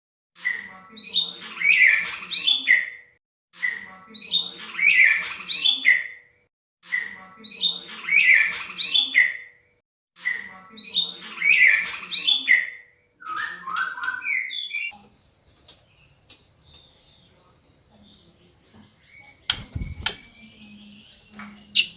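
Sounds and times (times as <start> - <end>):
bird song with chirps and whistles: 0.4 - 6.3, 6.9 - 18.3, 18.9 - 21.9.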